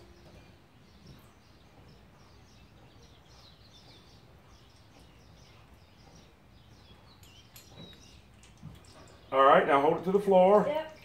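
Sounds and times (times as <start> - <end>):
birds chirping: 0.0 - 11.0
low steady background noise: 0.0 - 11.0.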